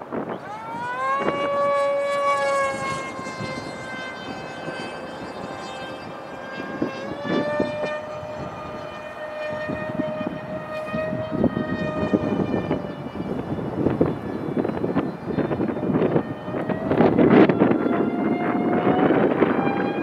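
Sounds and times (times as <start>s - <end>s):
electric motor and propeller whine: 0.0s - 20.0s
gusty wind noise: 0.0s - 20.0s.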